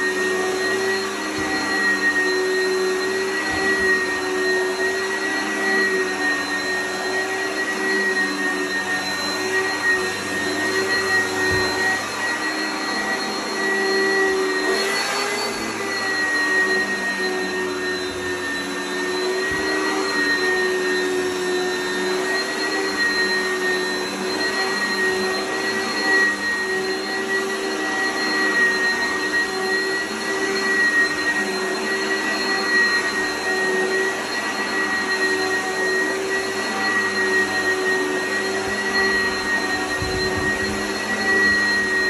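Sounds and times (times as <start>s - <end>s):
vacuum cleaner whining on carpet: 0.0s - 42.0s.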